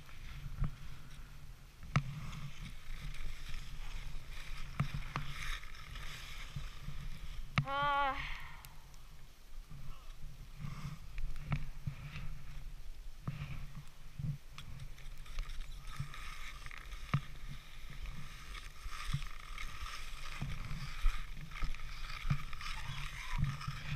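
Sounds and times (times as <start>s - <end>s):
skis scraping over packed snow: 0.0s - 7.6s, 9.8s - 23.9s
wind rumbling on microphone: 0.0s - 23.9s.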